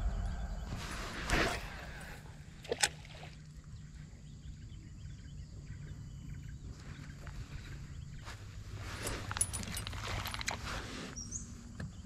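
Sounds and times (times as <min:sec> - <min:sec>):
low steady rumble: 0:00.0 - 0:10.2.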